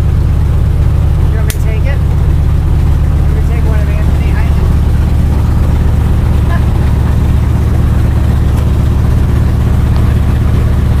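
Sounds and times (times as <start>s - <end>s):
plane engine and propeller droning: 0.0s - 11.0s.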